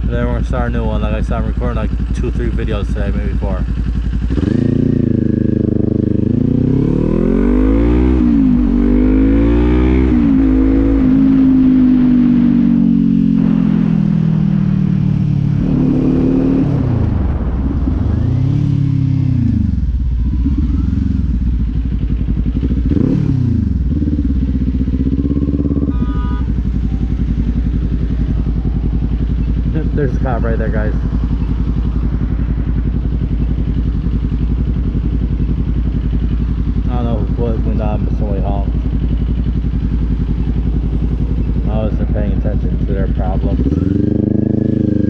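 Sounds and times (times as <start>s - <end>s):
motorcycle engine shifting gears: 1.2s - 45.0s.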